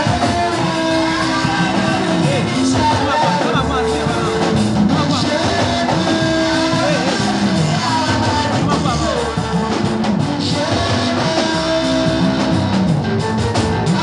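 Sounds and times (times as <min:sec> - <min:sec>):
gospel band music: 0:00.0 - 0:14.0
person singing: 0:00.0 - 0:14.0.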